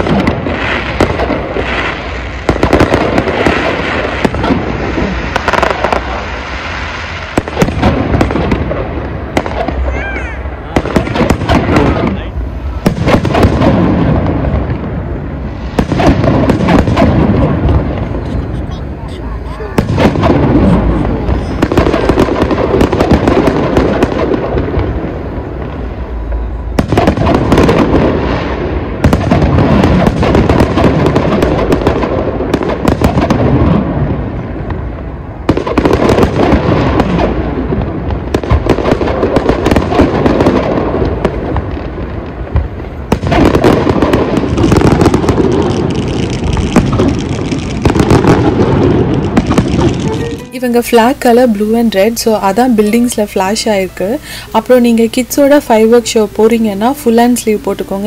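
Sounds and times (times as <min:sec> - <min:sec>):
fireworks bursting with booms: 0:00.0 - 0:58.0.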